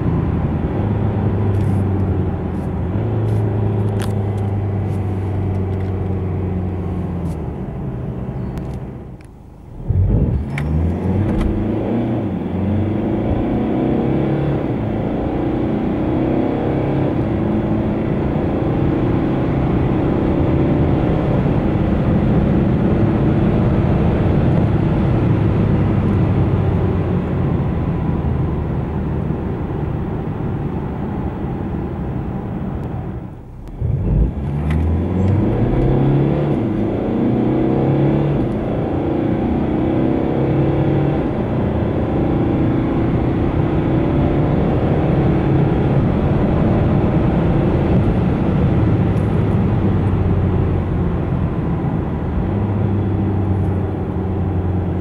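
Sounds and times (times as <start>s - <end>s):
diesel engine accelerating: 0.0s - 55.0s.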